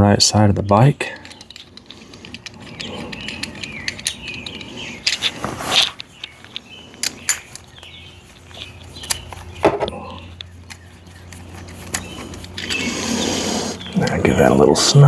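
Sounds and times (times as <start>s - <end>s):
birds chirping: 0.0s - 15.0s
metal tools clicking: 0.6s - 14.4s.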